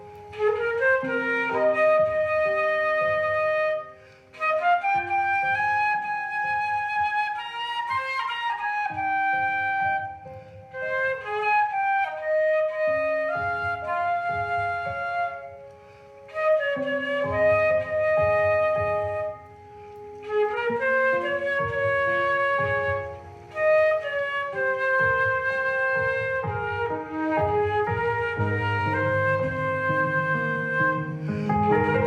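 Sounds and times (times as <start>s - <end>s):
flute playing slow melody: 0.0s - 32.0s.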